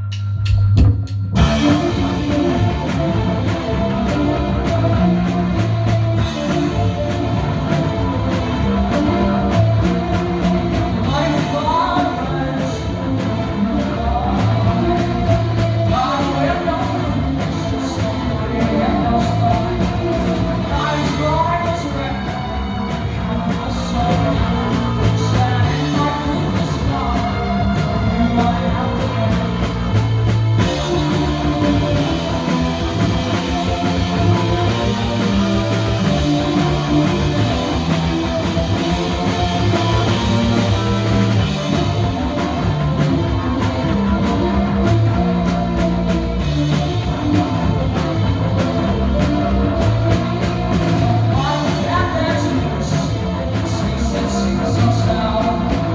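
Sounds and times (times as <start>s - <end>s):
rock band playing live: 0.0s - 55.9s
person singing: 1.4s - 55.9s.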